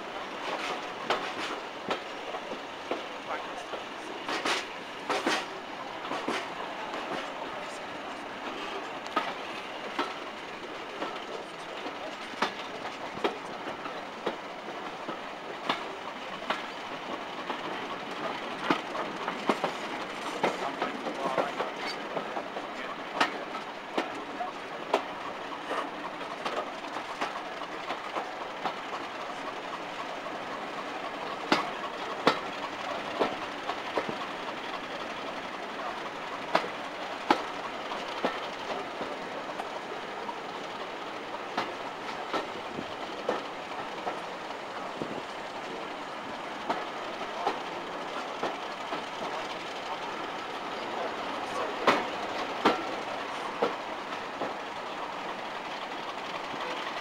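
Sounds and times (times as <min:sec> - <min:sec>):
train carriage rolling rumble: 0:00.0 - 0:57.0
wheels clicking over rail joints: 0:00.1 - 0:57.0.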